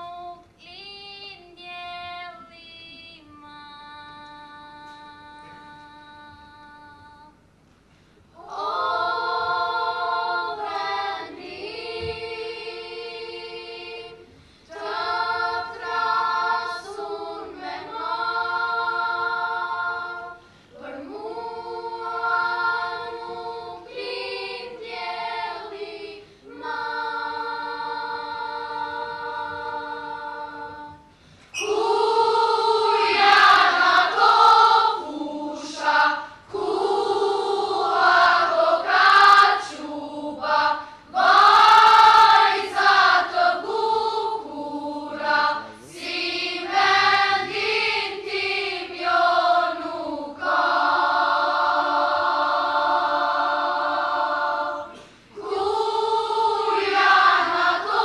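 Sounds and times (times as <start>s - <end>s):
children's choir singing: 0.0s - 2.2s, 8.4s - 58.0s.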